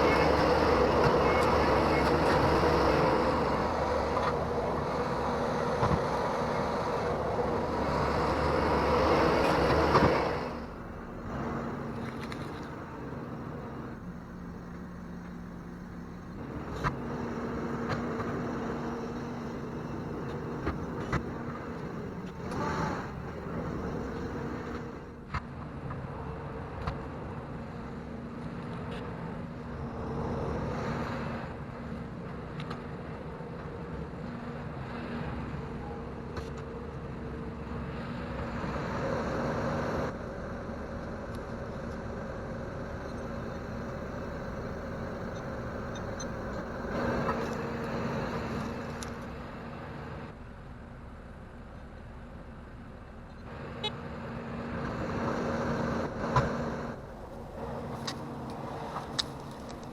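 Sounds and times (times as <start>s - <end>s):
track loader engine running: 0.0s - 59.9s.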